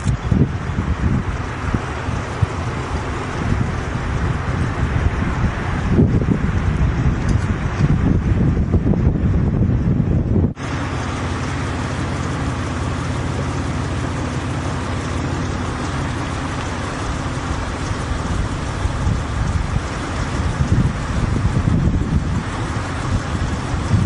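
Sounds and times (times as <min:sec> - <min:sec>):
low hum: 0:00.0 - 0:24.0
steady rushing noise: 0:00.0 - 0:24.0
wind buffeting microphone: 0:00.0 - 0:24.0.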